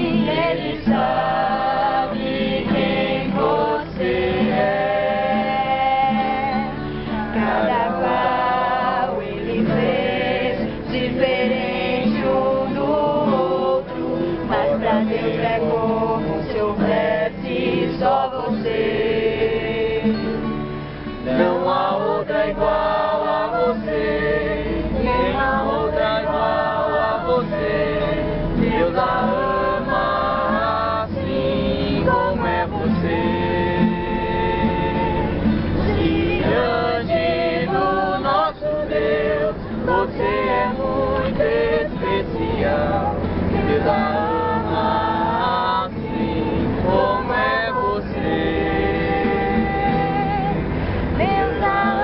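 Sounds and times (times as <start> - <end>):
bus engine rumble: 0.0 - 52.0
group of people singing: 0.0 - 52.0.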